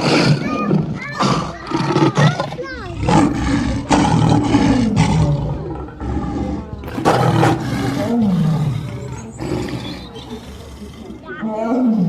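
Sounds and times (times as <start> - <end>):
lion roaring: 0.0 - 12.0.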